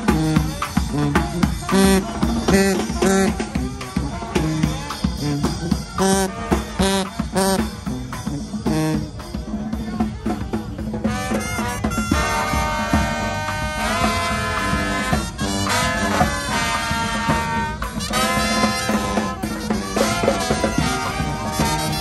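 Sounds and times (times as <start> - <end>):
brass band playing: 0.0 - 22.0
drums beating: 0.0 - 22.0.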